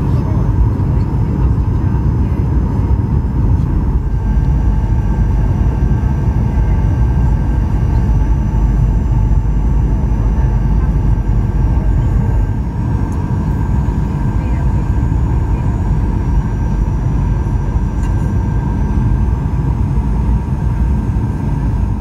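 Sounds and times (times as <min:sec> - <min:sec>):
constant engine whine: 0:00.0 - 0:22.0
jet engine and airflow rumble: 0:00.0 - 0:22.0.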